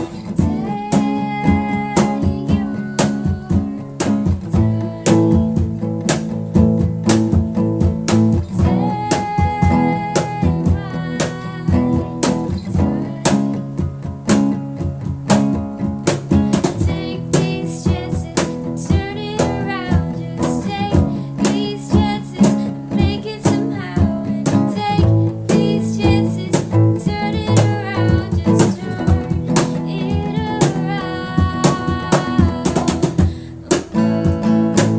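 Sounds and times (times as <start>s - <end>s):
person singing: 0.0s - 5.8s, 8.5s - 13.7s, 16.3s - 34.9s
beatboxed percussion: 0.0s - 34.9s
strummed acoustic guitars: 0.0s - 34.9s.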